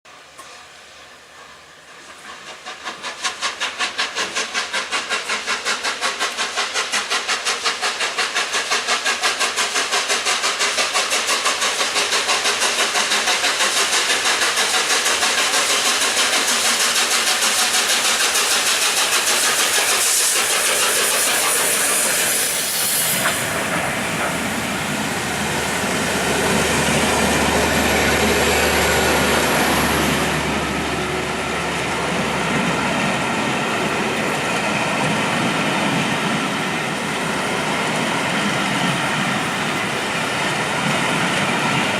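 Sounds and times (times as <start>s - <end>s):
steam locomotive exhaust beat: 0.4s - 41.9s.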